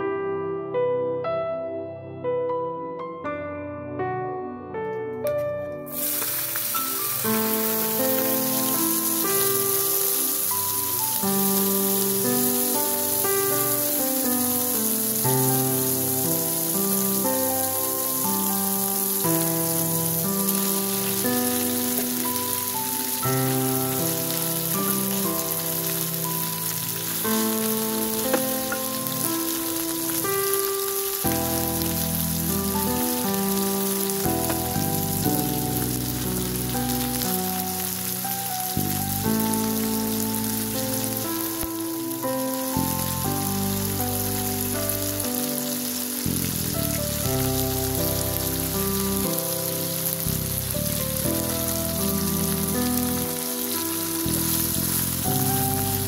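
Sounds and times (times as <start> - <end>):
sausage sizzling in a pan: 5.9 - 56.0.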